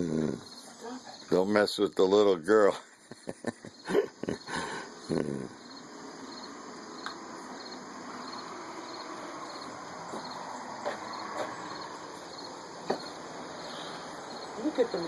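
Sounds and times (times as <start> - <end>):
crickets chirping: 0.0 - 15.0
steady hiss: 0.0 - 15.0.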